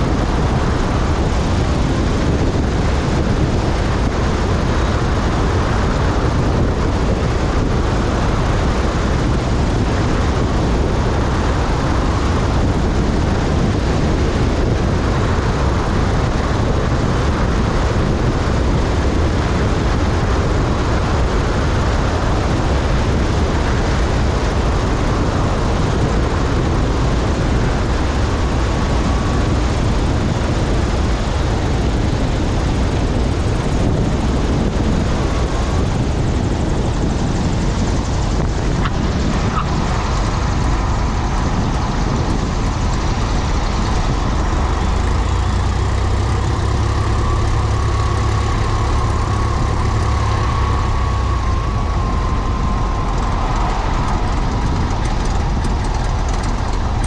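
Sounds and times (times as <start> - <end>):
airplane engine and propeller drone: 0.0 - 57.0
wind rushing over camera: 0.0 - 57.0.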